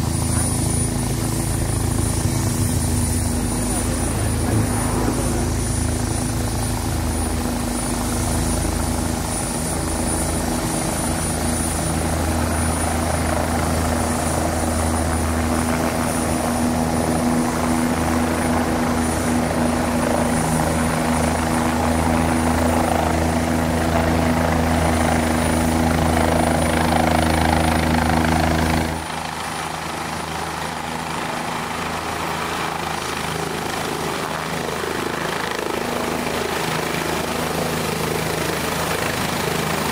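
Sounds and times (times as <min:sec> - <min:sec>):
helicopter rotor and turbine drone: 0:00.0 - 0:39.9.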